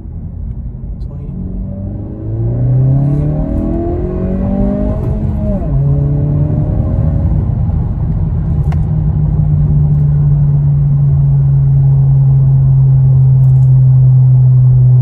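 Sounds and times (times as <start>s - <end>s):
car engine accelerating: 0.5s - 15.0s.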